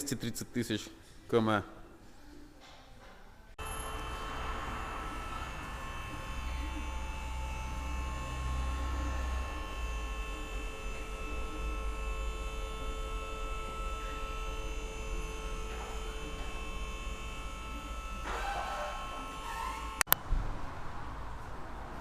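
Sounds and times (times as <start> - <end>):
buzzing hum: 3.6 - 21.3.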